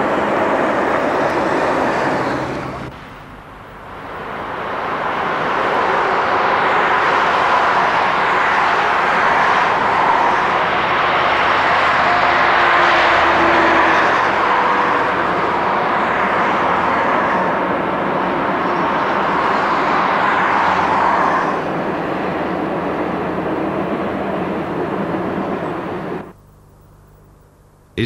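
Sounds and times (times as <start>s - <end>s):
train wheels roaring on rails: 0.0s - 26.4s.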